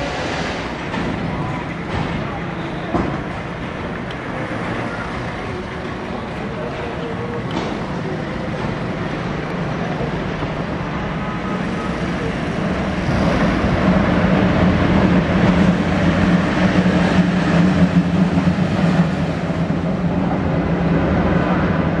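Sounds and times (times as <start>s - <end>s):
electric locomotives approaching: 0.0s - 22.0s.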